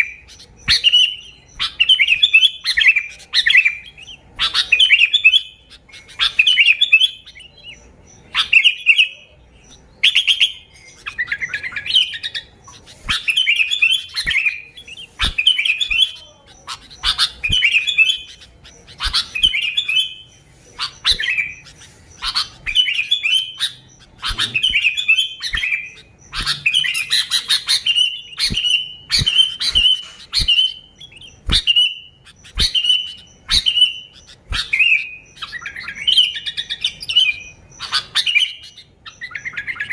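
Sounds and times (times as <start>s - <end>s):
bulbul warbling song: 0.0s - 39.9s
short evenly spaced bird notes: 0.0s - 39.9s.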